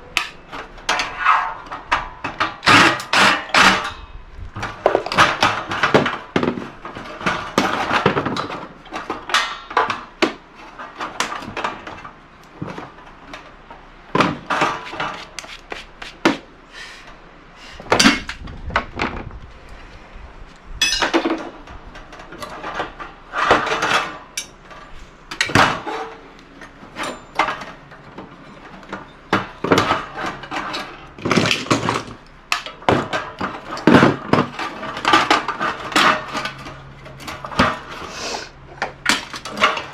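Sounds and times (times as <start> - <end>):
metallic clanks and rattles of tools: 0.1 - 15.5, 20.8 - 38.1, 38.8 - 39.9.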